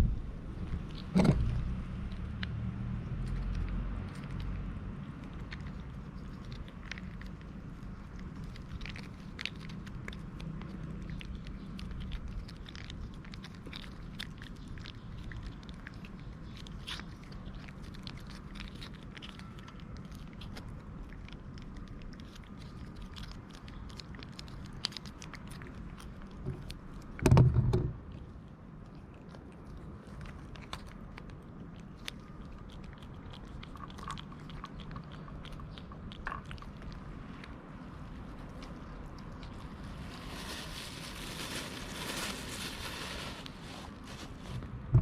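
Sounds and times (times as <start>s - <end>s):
cats crunching food: 0.0s - 44.6s.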